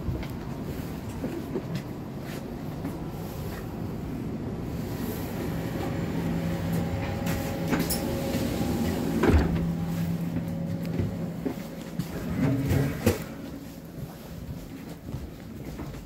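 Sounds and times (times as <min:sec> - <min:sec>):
train carriage hum: 0:00.0 - 0:16.0.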